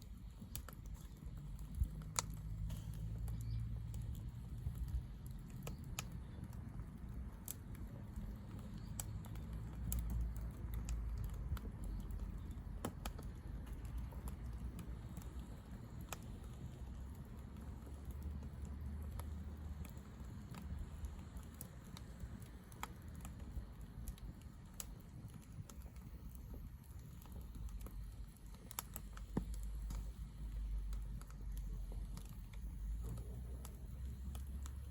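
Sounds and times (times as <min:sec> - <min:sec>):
firewood crackling and popping: 0:00.0 - 0:34.9
low steady rumble: 0:00.0 - 0:34.9.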